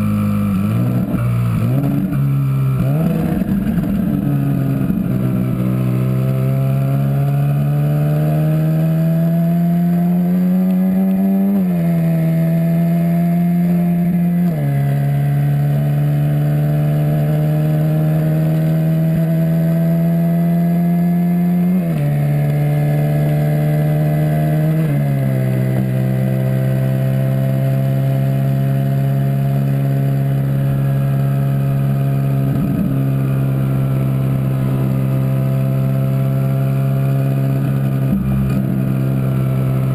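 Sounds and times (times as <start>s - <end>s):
car engine accelerating with upshifts: 0.0s - 39.9s.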